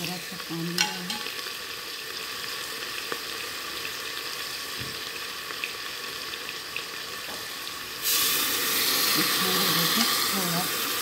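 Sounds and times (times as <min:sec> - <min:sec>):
masala sizzling in a pot: 0:00.0 - 0:11.0.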